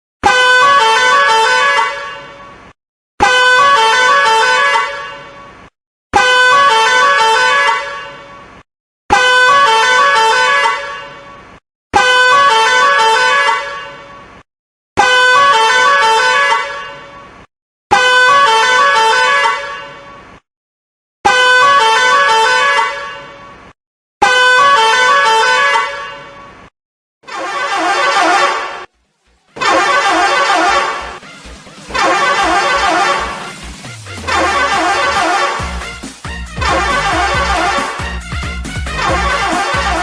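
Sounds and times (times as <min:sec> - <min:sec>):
multi-tone bus air horn tune: 0:00.2 - 0:02.5, 0:03.2 - 0:05.4, 0:06.1 - 0:08.3, 0:09.1 - 0:14.1, 0:15.0 - 0:17.1, 0:17.9 - 0:20.1, 0:21.2 - 0:23.4, 0:24.2 - 0:26.3, 0:27.2 - 0:28.9, 0:29.5 - 0:40.0.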